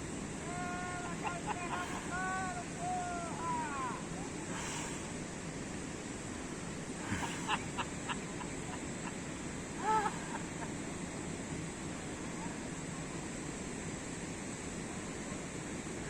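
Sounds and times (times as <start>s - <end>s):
water noise: 0.0s - 16.0s
wind: 0.0s - 16.0s.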